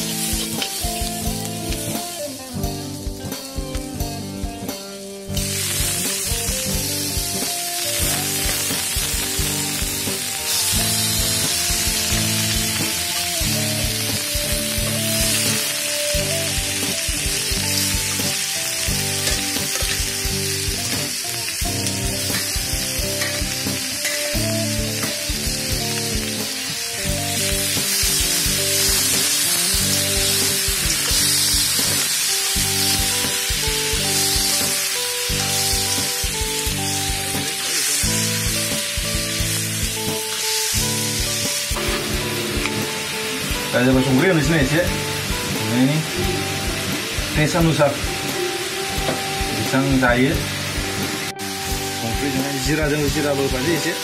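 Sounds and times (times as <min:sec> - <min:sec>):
background music: 0:00.0 - 0:54.0
meat sizzling in hot oil: 0:00.0 - 0:54.0.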